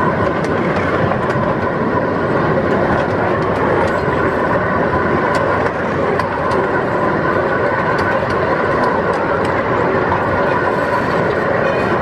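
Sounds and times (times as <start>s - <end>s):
miniature train wheels rumbling: 0.0s - 12.0s.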